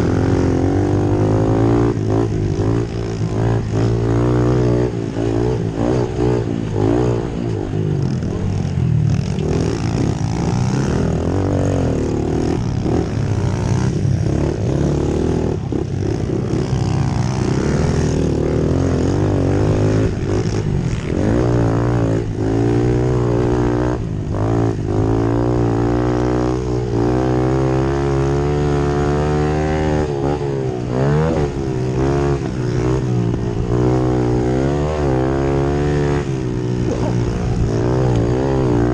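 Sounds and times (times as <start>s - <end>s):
small motorcycle engines revving: 0.0s - 38.9s.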